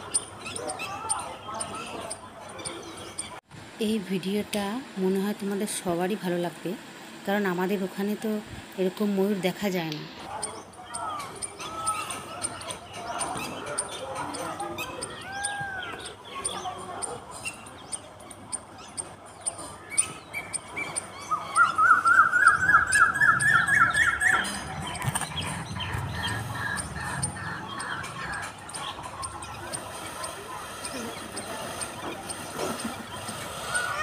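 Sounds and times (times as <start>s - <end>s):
birds calling: 0.0s - 3.4s, 8.2s - 34.0s.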